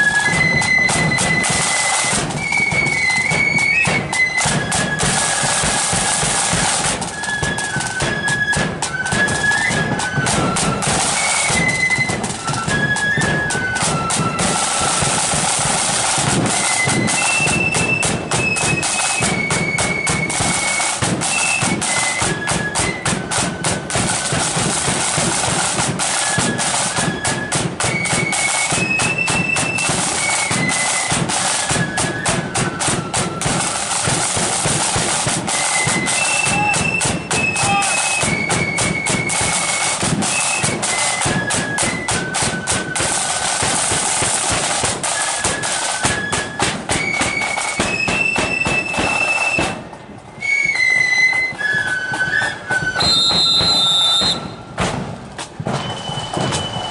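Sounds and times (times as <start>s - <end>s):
rapid drumming with bass drum: 0.0s - 49.9s
high flute melody: 0.0s - 54.8s, 55.6s - 56.9s.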